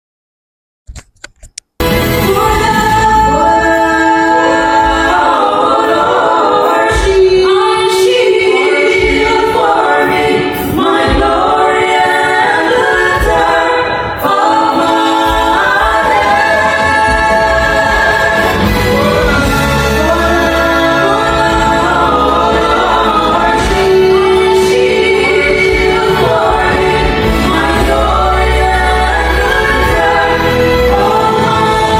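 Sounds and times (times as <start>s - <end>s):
group singing in harmony: 1.8s - 31.9s.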